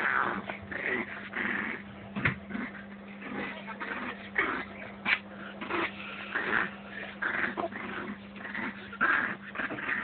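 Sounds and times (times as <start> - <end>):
dogs vocalising while play-fighting: 0.0 - 10.0.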